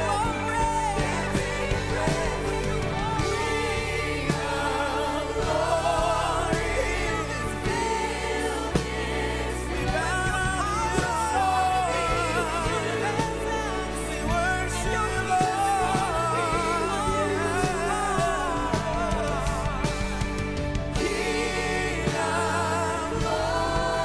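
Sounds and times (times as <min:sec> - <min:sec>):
backing singers: 0:00.0 - 0:24.0
band with keyboards and drums: 0:00.0 - 0:24.0.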